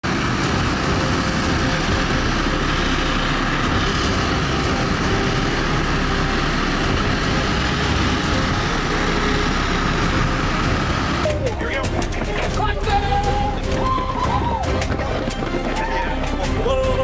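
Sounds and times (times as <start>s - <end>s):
aircraft engine running: 0.0s - 17.0s.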